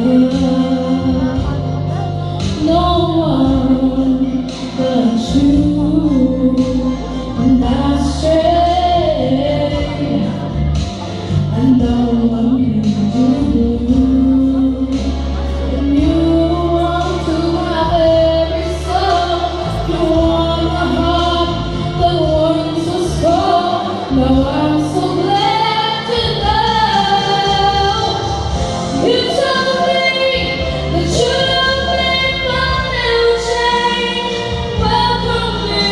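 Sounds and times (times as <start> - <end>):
instrumental accompaniment with bass: 0.0 - 35.9
woman singing into microphone: 0.0 - 35.9.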